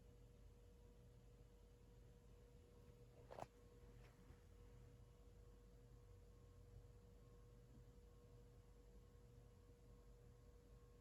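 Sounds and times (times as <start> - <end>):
faint ceiling fan motor hum: 0.0 - 11.0.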